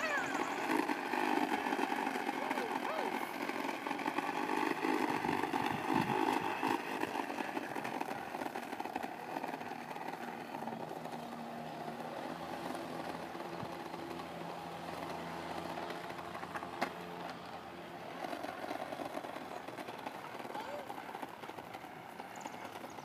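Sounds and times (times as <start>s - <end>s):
toy lawn mower motor whirring: 0.0s - 23.0s.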